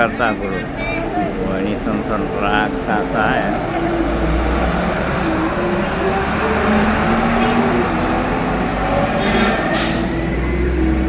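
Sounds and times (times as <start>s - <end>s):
traffic noise: 0.0s - 11.0s
trucks passing with engine rumble: 0.0s - 11.0s.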